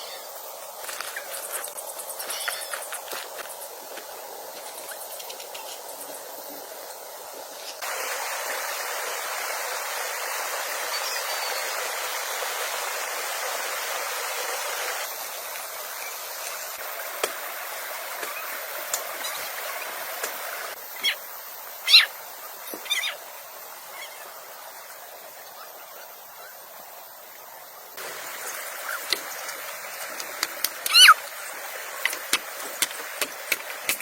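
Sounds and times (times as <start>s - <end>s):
rushing water hiss: 0.0s - 34.0s.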